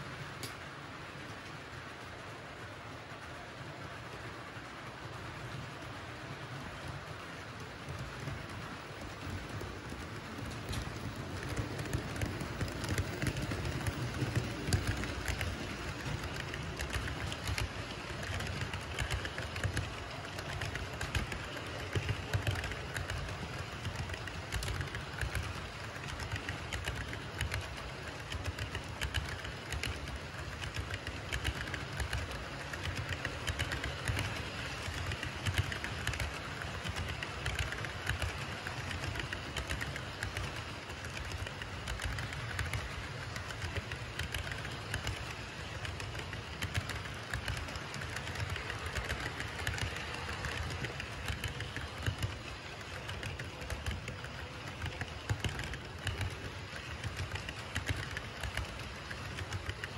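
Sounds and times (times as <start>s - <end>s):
model train cars rolling: 0.0s - 59.9s
wheels clicking on rails: 0.0s - 59.9s.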